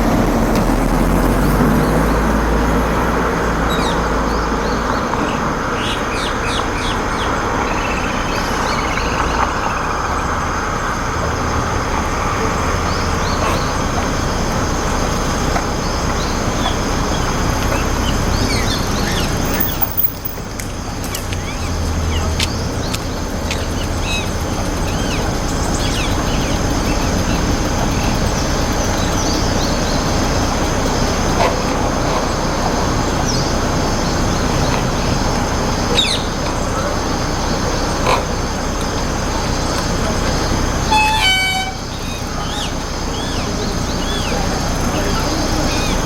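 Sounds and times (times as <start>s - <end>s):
distant road traffic: 0.0s - 46.0s
parakeets calling: 0.0s - 46.0s.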